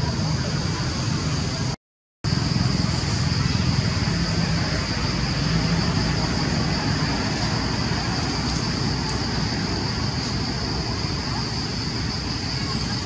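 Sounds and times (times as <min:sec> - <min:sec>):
rushing outdoor noise: 0:00.0 - 0:13.0
high-pitched drone: 0:02.3 - 0:13.0.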